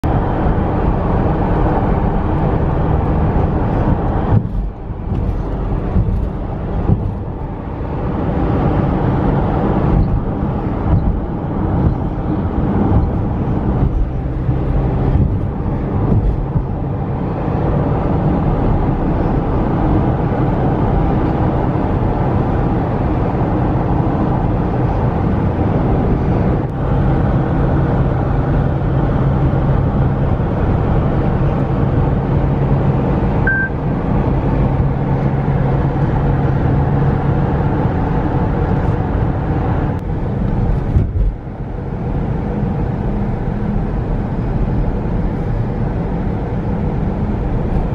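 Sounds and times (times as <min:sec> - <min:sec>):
engine drone: 0:00.0 - 0:47.9.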